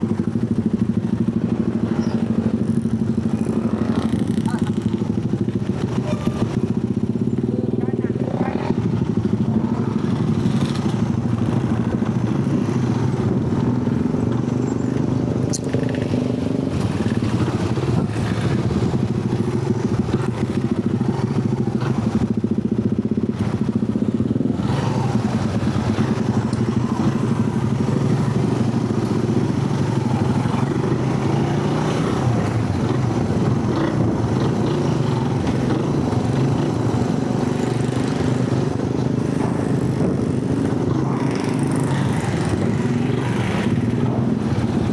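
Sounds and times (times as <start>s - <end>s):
engine droning steadily: 0.0s - 44.9s.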